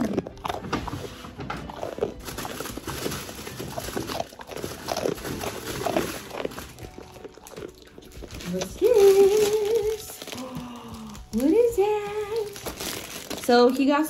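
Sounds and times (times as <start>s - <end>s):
dog crunching a treat: 0.0s - 14.0s.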